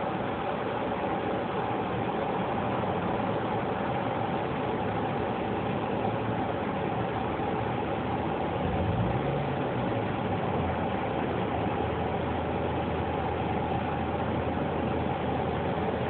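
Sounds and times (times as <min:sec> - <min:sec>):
constant hiss: 0:00.0 - 0:16.0.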